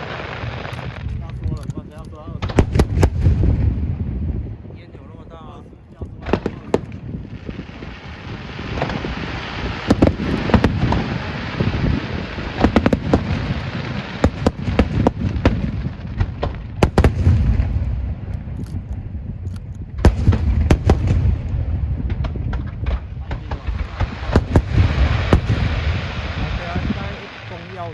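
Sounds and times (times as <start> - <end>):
fireworks crackle: 0.0 - 4.5, 5.2 - 27.9
fireworks bangs and booms: 0.0 - 27.9
low rumbling bursts: 0.0 - 27.9.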